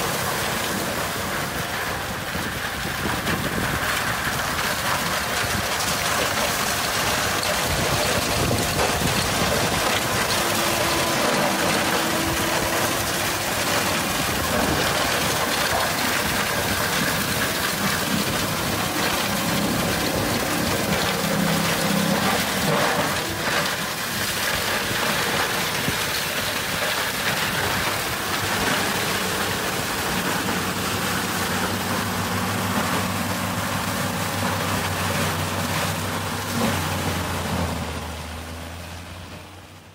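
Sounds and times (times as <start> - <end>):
shredder chewing branches: 0.0 - 39.9
tractor engine hum: 0.0 - 39.9.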